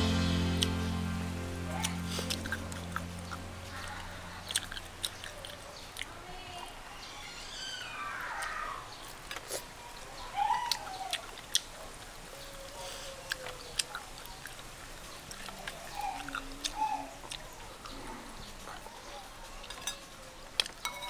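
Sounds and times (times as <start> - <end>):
chewing bony chicken: 1.7 - 6.8, 8.4 - 20.9.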